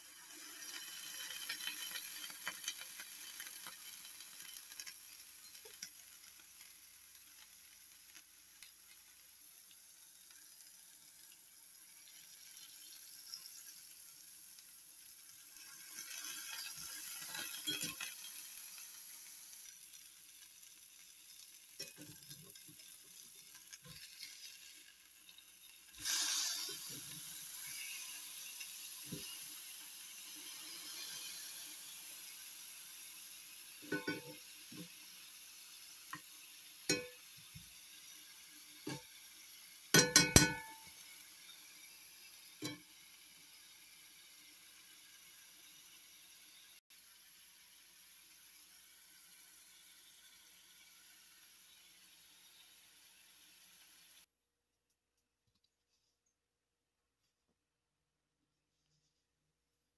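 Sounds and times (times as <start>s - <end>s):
meat sizzling in a skillet: 0.0s - 54.3s.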